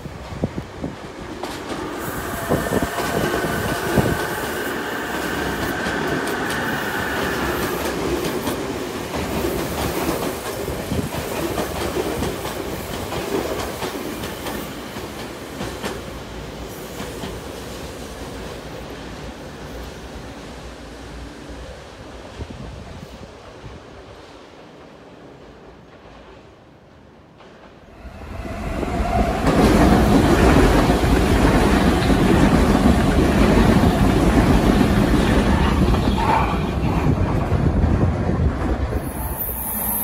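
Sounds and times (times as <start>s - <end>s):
steady train whine: 0.0s - 40.0s.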